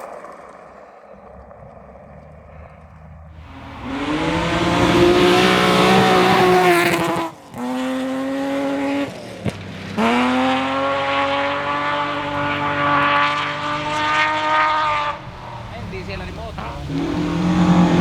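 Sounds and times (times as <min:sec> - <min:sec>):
rally car engine at high revs: 0:01.3 - 0:18.0.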